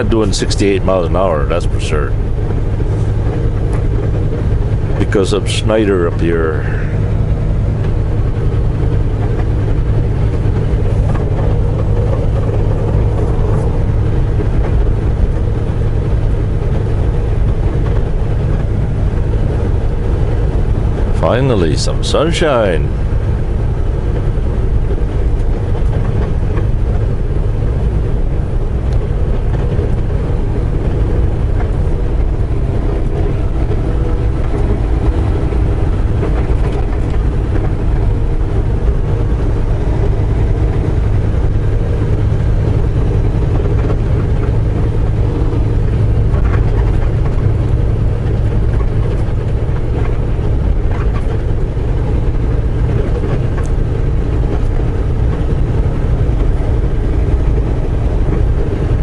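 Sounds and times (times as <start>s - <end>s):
diesel engine drone: 0.0s - 59.0s
road and tyre noise: 0.0s - 59.0s.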